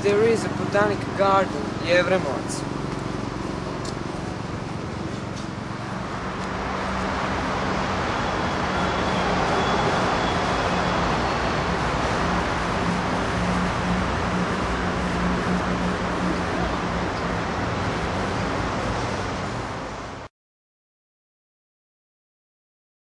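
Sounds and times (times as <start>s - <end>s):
road traffic: 0.0s - 20.3s.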